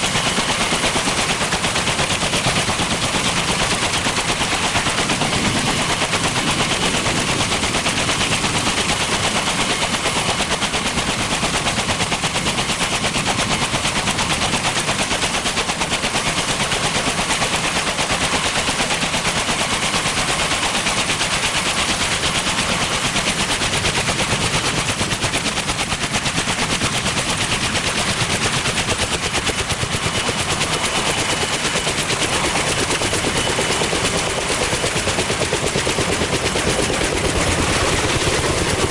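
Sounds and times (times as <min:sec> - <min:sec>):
helicopter rotors chopping: 0:00.0 - 0:38.9.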